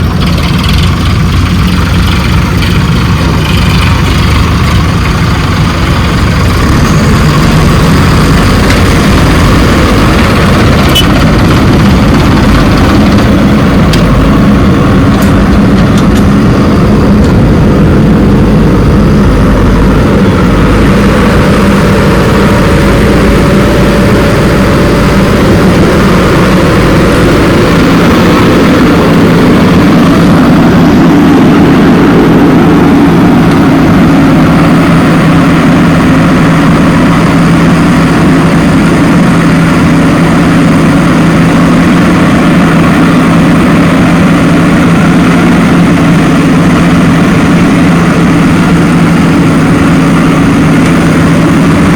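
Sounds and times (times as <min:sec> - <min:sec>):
diesel engines rumbling: 0:00.0 - 0:51.9.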